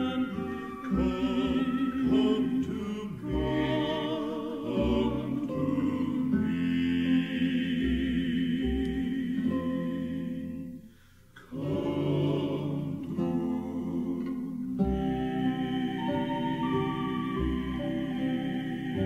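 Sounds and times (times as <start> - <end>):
male vocal quartet singing: 0.0 - 19.0.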